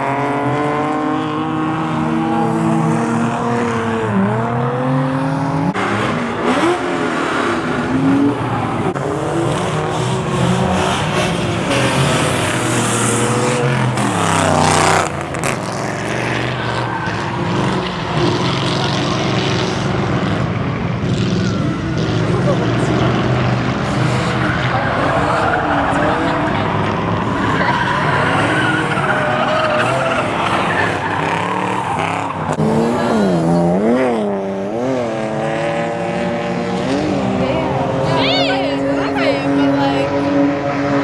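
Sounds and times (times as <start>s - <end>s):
car engines revving: 0.0s - 41.0s
tyres squealing and skidding: 1.0s - 41.0s.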